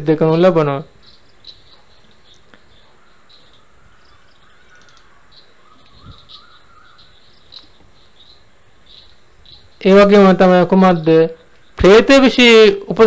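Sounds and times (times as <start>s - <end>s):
faint high chirping: 0.5s - 13.0s.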